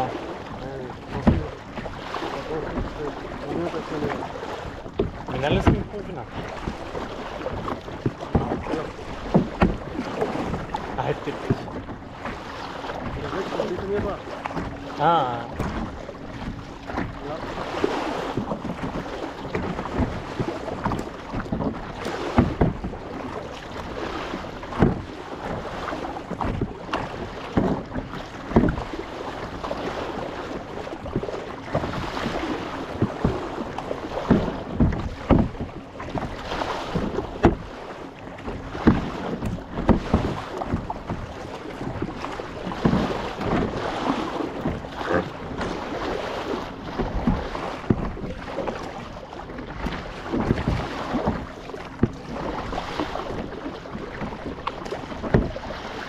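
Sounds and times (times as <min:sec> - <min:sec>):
paddles splashing in water: 0:00.0 - 0:56.0
water washing against hull: 0:00.0 - 0:56.0.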